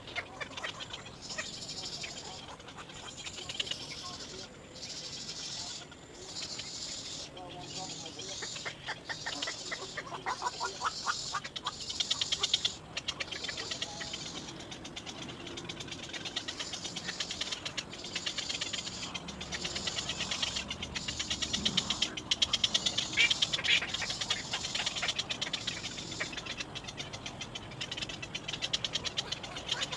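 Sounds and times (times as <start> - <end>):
nestling bird calling: 0.0 - 29.9.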